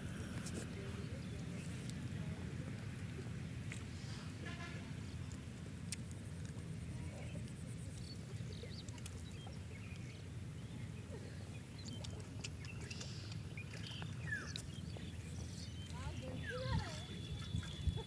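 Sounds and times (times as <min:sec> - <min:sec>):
water sloshing and lapping: 0:00.2 - 0:18.0.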